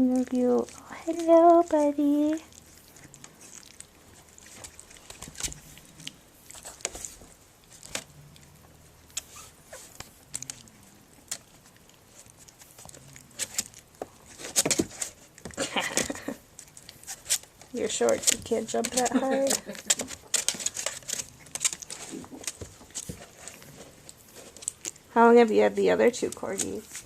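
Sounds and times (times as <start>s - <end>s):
puppy scuffling and play-biting: 0.0s - 27.0s
small clicks and scrapes: 0.0s - 27.0s.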